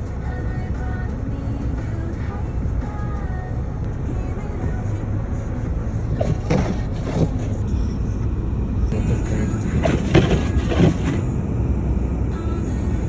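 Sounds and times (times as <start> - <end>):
low outdoor city rumble: 0.0 - 13.0.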